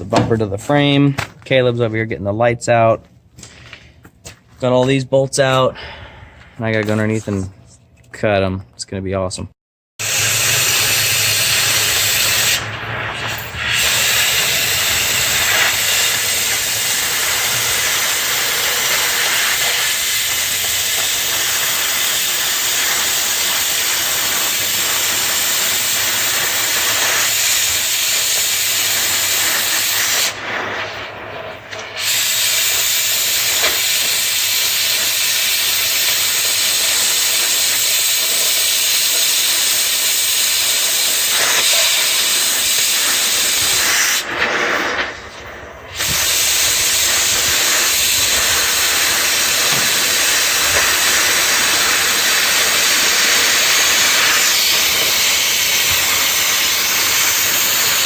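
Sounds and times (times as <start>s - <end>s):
cutting torch hissing: 0.0s - 0.8s, 10.0s - 58.0s.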